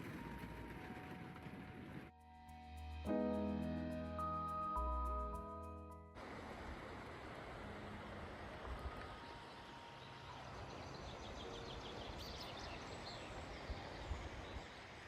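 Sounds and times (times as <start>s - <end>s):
faint outdoor background noise: 2.8s - 15.0s.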